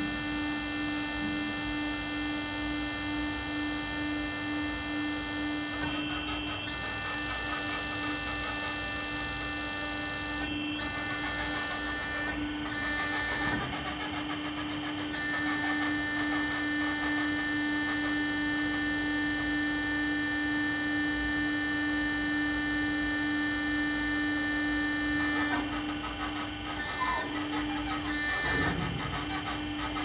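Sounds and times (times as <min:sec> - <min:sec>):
hydraulic drive hum and whine: 0:00.0 - 0:30.0.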